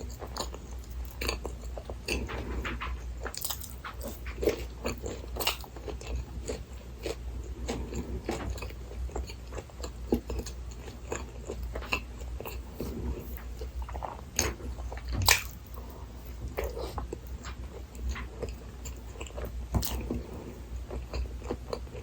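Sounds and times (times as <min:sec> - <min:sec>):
wet chewing with mouth clicks: 0:00.0 - 0:22.0.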